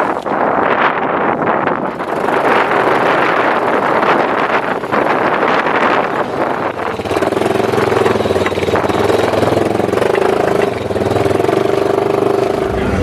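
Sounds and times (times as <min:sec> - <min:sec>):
wind buffeting microphone: 0:00.0 - 0:13.0
engine running steadily: 0:01.7 - 0:13.0.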